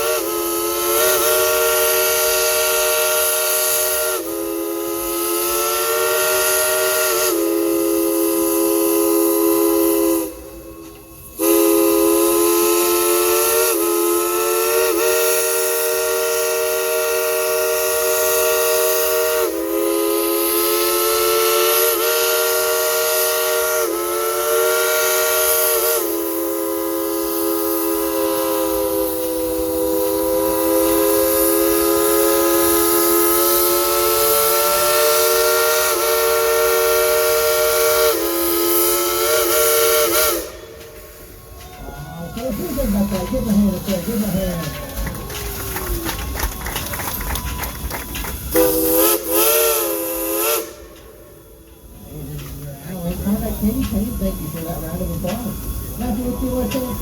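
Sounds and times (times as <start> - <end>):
steam locomotive chime whistle: 0.0 - 57.0.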